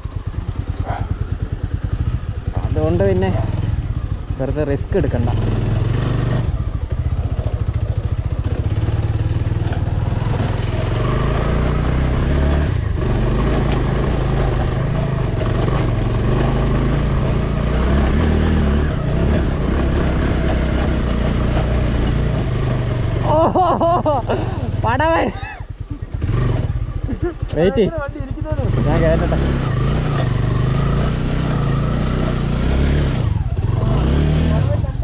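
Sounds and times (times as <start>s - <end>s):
motorcycle engine: 0.0s - 35.0s.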